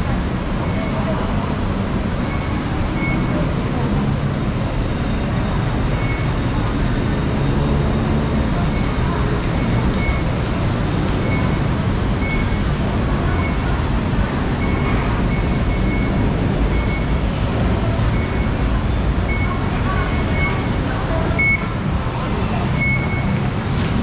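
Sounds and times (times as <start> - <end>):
passers-by talking: 0.0 - 24.0
road traffic rumble: 0.0 - 24.0.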